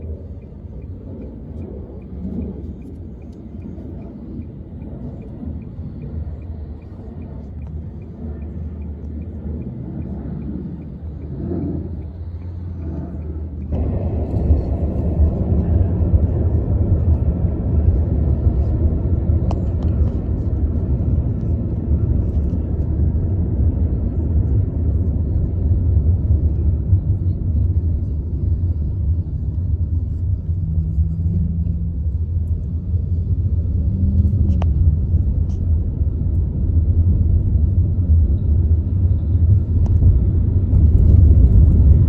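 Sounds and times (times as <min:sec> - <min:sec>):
low vehicle rumble: 0:00.0 - 0:42.0.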